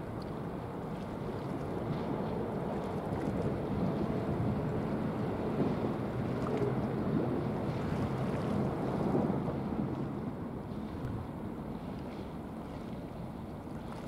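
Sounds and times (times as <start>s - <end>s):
sea wash: 0.0s - 14.0s
wind buffeting microphone: 0.0s - 14.0s.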